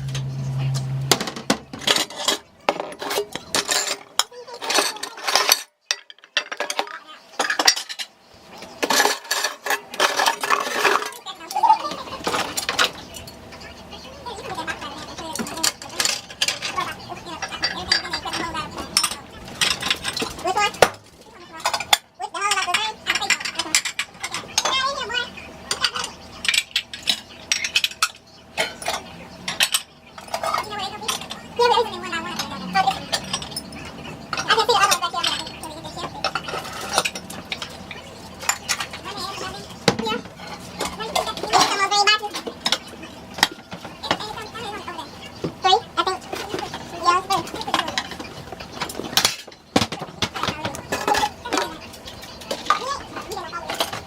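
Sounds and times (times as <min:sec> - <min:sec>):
dishes and cutlery clattering: 0:00.0 - 0:13.6, 0:14.2 - 0:54.0.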